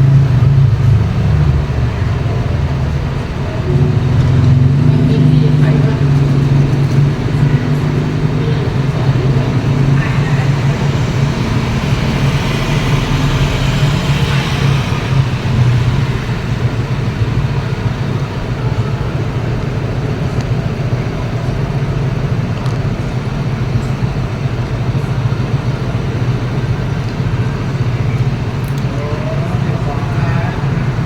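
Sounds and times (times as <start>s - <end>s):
engine drone: 0.0s - 31.0s
road noise: 0.0s - 31.0s.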